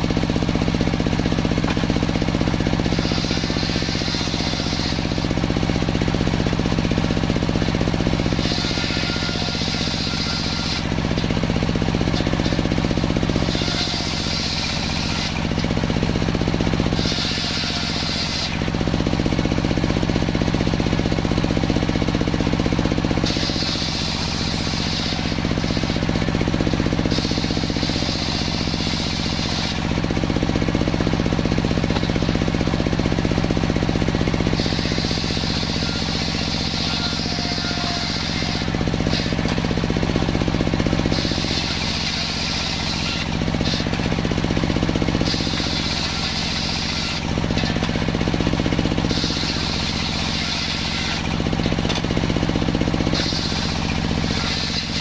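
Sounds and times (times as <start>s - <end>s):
saw blade cutting wood whine: 0.0s - 55.0s
table saw running: 0.0s - 55.0s.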